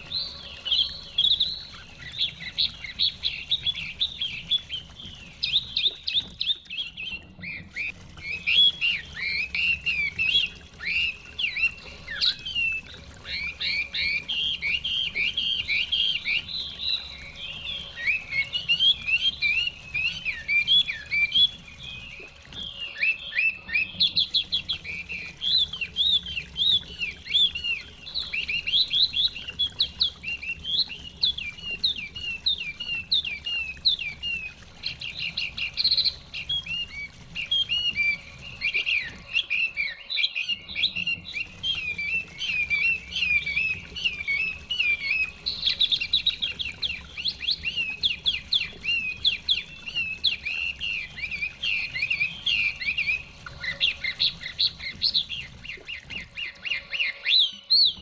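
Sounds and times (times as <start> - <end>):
songbird whistling phrases: 0.0 - 58.0.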